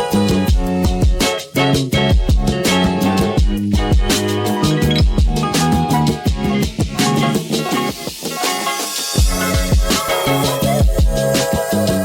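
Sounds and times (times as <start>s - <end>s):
background music with kick drum: 0.0s - 12.0s.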